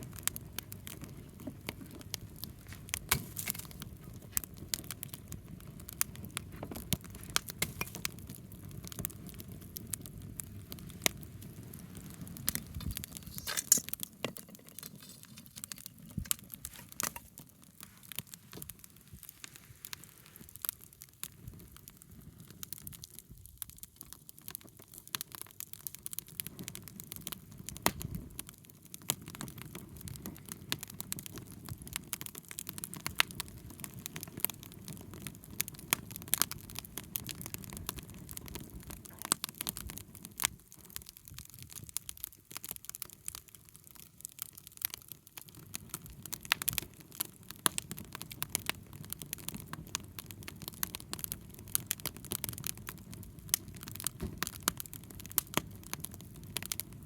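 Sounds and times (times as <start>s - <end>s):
bonfire crackling and popping: 0.0s - 57.0s.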